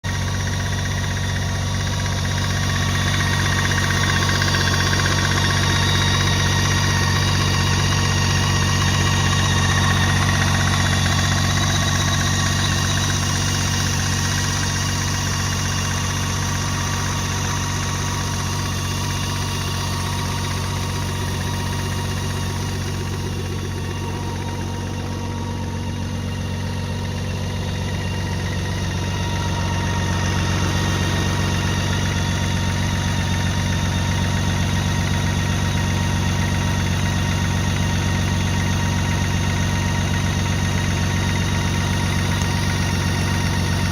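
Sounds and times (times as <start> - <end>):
engine ticking: 0.0 - 43.9
motorcycle engine idling: 0.0 - 43.9.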